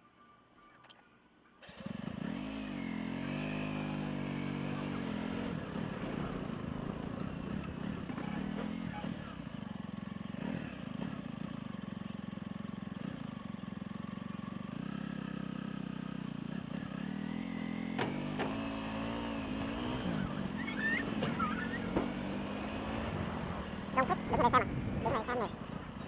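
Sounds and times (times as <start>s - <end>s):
vehicle engine running: 1.6s - 26.0s.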